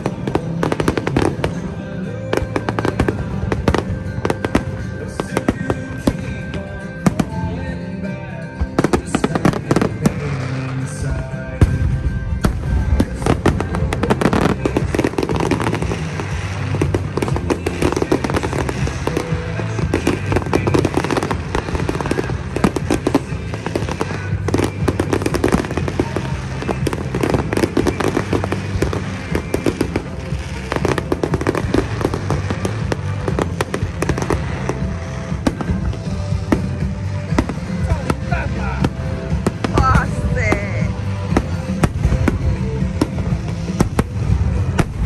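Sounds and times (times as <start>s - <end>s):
fireworks bursting and crackling: 0.0s - 45.0s
loud music: 0.0s - 45.0s.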